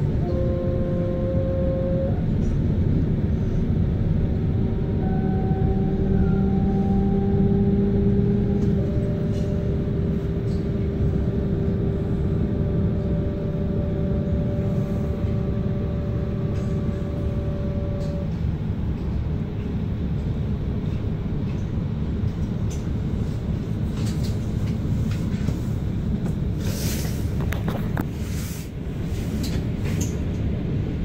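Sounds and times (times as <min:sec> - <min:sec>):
train humming tones: 0:00.0 - 0:31.0
train wheels rumbling on rails: 0:00.0 - 0:31.0.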